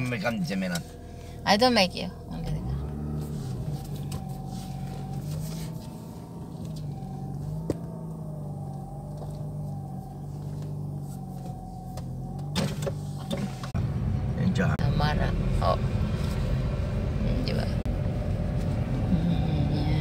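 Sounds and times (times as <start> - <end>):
car engine droning in cabin: 0.0 - 20.0.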